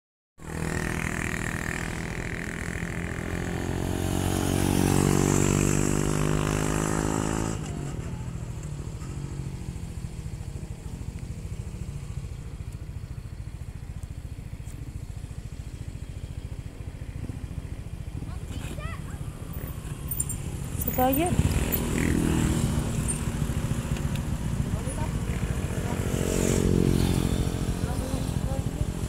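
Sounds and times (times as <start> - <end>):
motor scooter engine running: 0.4 - 29.0.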